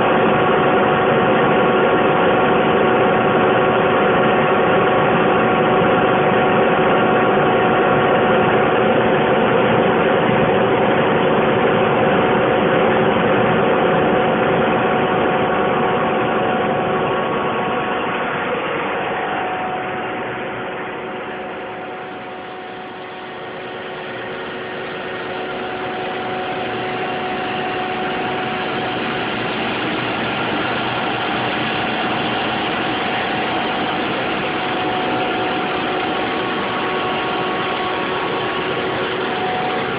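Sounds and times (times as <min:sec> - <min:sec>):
heat pump machine noise: 0:00.0 - 0:39.9
steady whining tones: 0:00.0 - 0:39.9.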